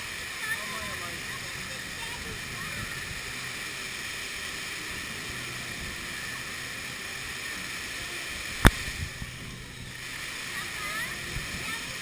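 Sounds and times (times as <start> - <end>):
fountain water spraying: 0.0 - 12.0.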